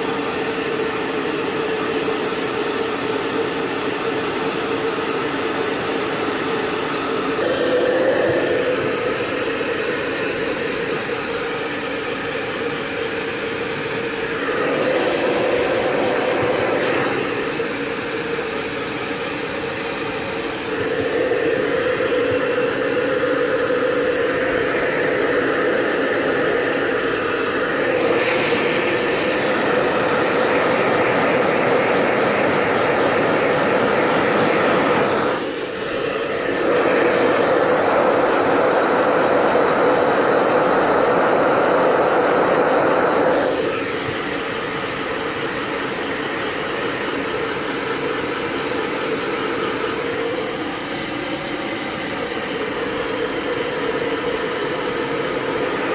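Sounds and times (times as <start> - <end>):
blow dryer rushing air: 0.0 - 55.9.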